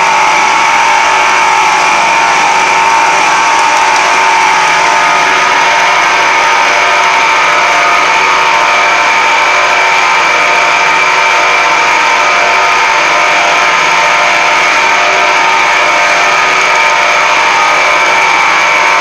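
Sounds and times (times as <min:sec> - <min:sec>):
machinery humming with high whine: 0:00.0 - 0:19.0.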